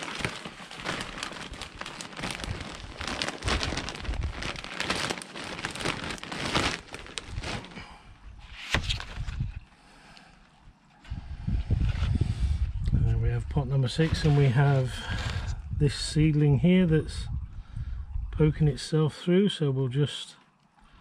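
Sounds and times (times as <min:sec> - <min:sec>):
crackling and rustling soil: 0:00.0 - 0:18.8.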